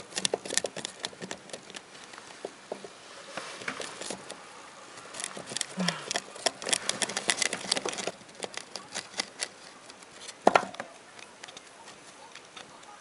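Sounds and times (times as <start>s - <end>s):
dry crackling clicks: 0.0s - 2.6s, 3.3s - 13.0s
rabbit gnawing dry sponge: 0.0s - 13.0s.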